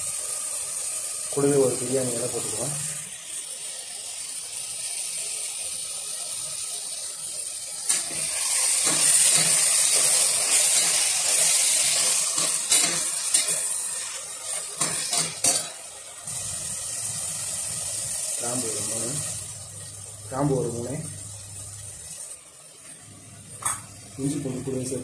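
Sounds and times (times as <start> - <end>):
vegetables sizzling in hot oil: 0.0 - 25.0.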